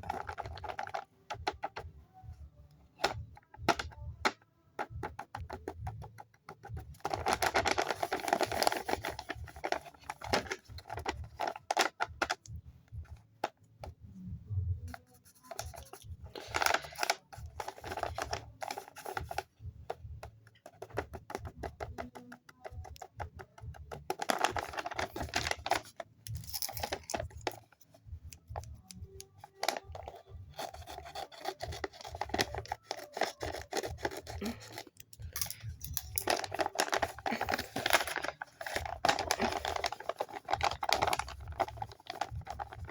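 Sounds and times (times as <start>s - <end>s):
paper crinkling and rustling: 0.0s - 1.9s, 3.0s - 12.6s, 14.9s - 19.5s, 20.6s - 42.9s.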